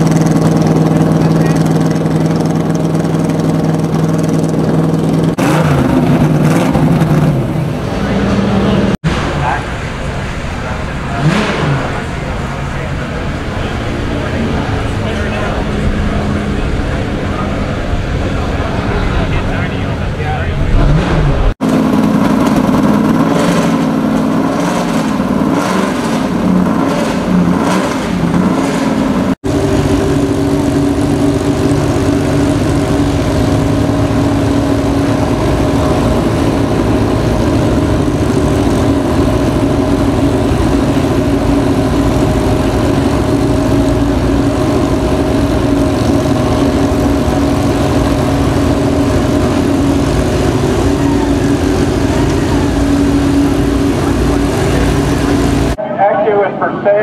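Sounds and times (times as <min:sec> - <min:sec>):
car engine idling with lope: 0:00.0 - 0:57.0
racing engine idling: 0:00.0 - 0:57.0.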